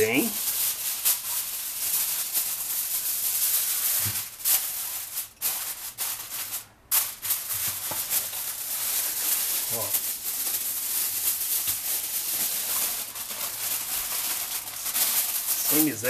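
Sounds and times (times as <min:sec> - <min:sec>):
aluminium foil crinkling: 0:00.0 - 0:16.0.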